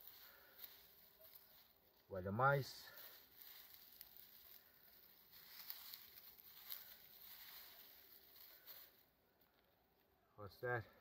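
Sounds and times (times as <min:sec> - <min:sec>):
hands rustling dry debris: 0:00.0 - 0:09.7.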